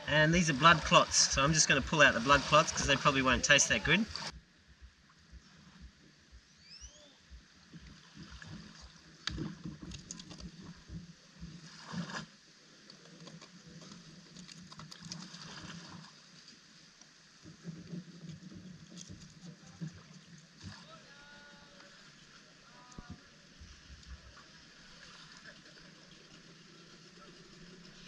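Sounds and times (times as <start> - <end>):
water lapping and gurgling: 0.0 - 6.5, 7.3 - 28.0.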